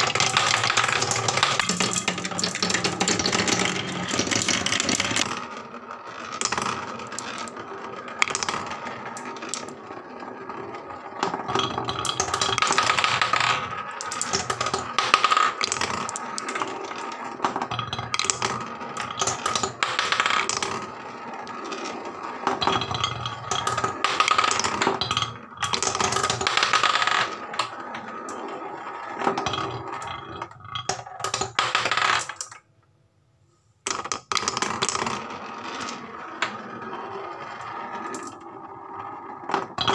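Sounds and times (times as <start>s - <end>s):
marbles knocking track walls: 0.0s - 32.7s, 33.9s - 39.9s
marbles rolling on wooden track: 0.0s - 32.7s, 33.8s - 39.9s.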